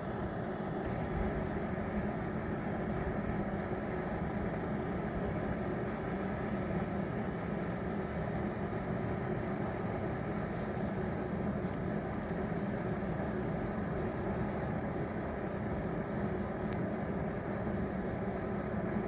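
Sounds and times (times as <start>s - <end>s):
fire burning low rumble: 0.0s - 19.0s.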